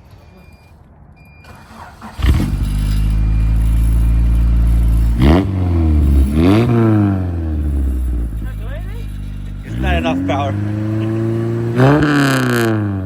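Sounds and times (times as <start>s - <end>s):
car engine idling and revving: 1.2s - 13.0s.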